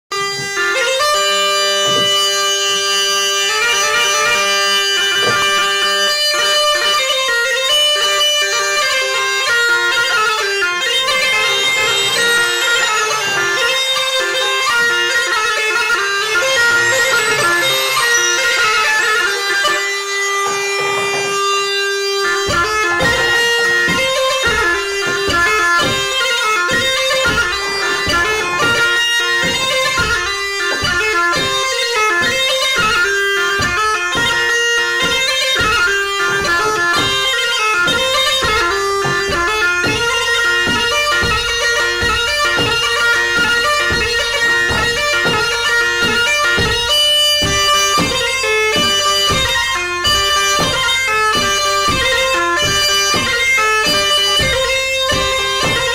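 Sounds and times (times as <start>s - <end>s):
busy melody over steady beat: 0.1s - 55.9s.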